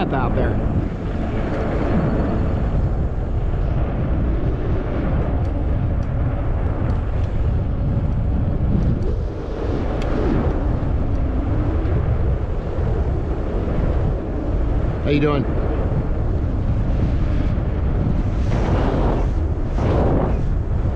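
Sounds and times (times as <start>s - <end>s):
bicycle riding noise: 0.0s - 20.9s
wind buffeting microphone: 0.0s - 20.9s.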